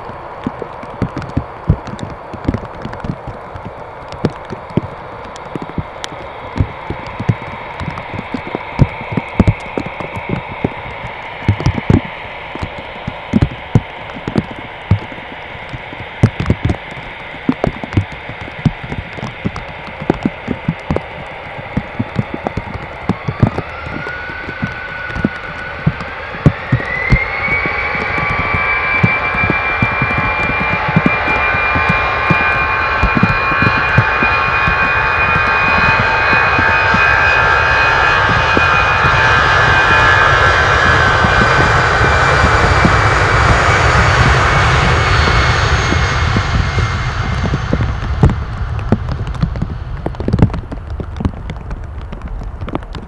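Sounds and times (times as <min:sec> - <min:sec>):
jet engines humming in cabin: 0:00.0 - 0:53.0
sharp knocks and taps: 0:00.4 - 0:37.0, 0:38.2 - 0:38.7, 0:41.2 - 0:53.0
engine whine spooling up: 0:04.4 - 0:50.6.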